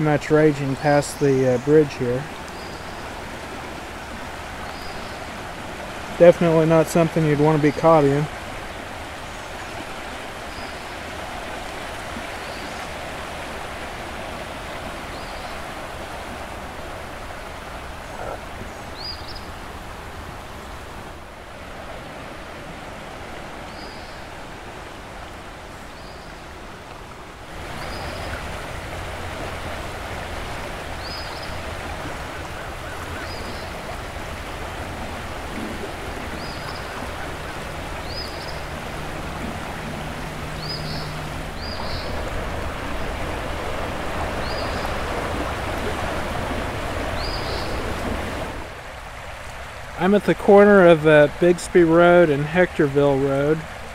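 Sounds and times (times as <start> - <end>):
floodwater rushing: 0.0 - 53.9.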